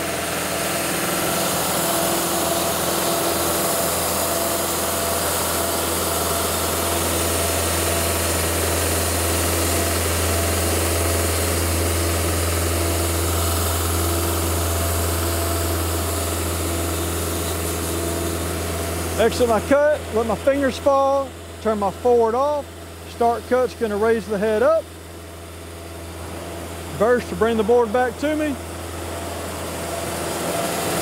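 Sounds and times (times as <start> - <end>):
band saw cutting wood: 0.0 - 24.8
engine drone: 0.0 - 31.0.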